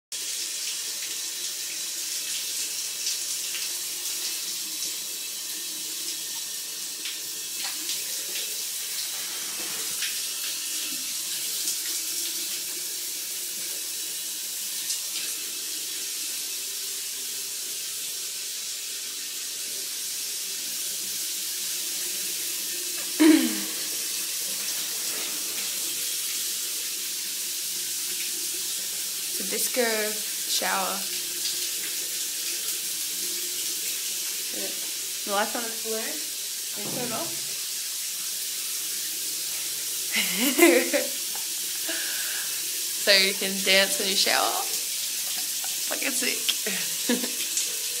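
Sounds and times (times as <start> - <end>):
shower spraying: 0.2 - 48.0.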